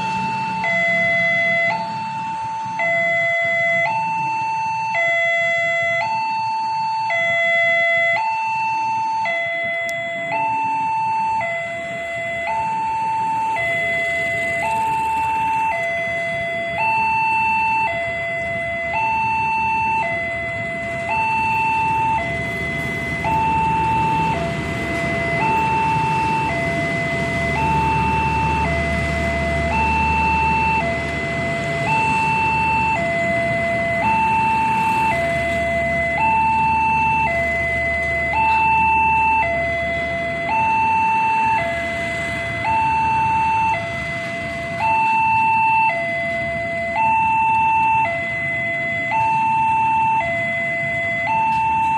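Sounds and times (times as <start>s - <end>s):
passenger train rumbling: 0.0s - 4.3s, 9.2s - 51.9s
two-tone level crossing alarm: 0.0s - 51.9s.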